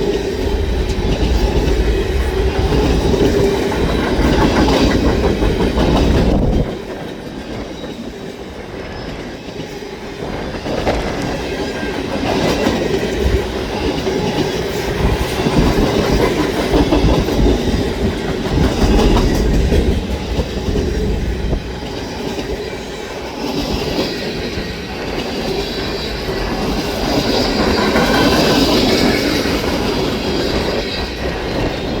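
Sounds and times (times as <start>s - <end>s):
train wheels clacking over track: 0.0s - 32.0s.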